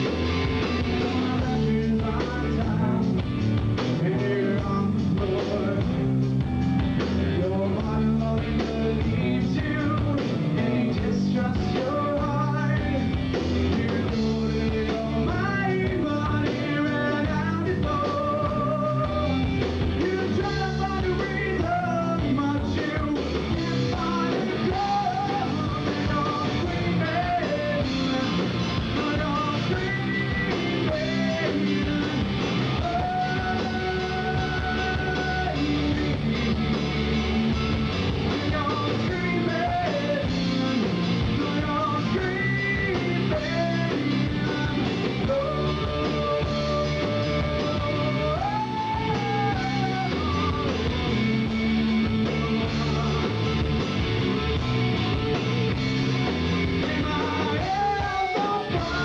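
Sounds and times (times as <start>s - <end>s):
drum kit: 0.0s - 59.0s
electric guitars: 0.0s - 59.0s.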